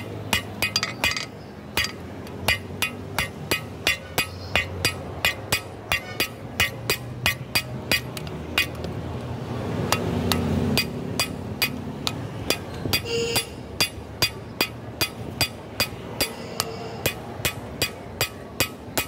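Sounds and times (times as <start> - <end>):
hammer beating hot steel on anvil: 0.0 - 8.9, 9.8 - 19.0.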